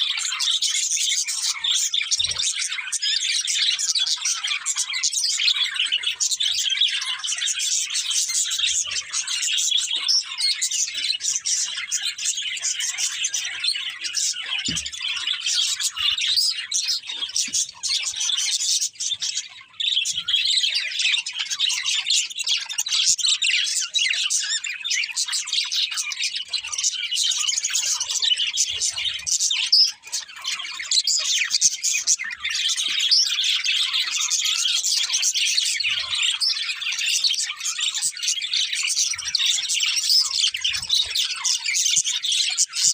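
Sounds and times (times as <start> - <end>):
budgerigars chirping: 0.0 - 42.9.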